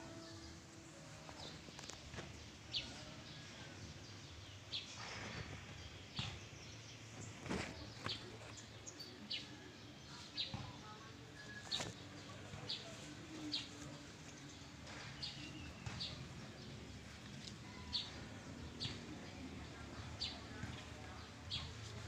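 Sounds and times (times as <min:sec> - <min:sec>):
low background noise: 0:00.0 - 0:22.0
small birds chirping: 0:00.0 - 0:22.0.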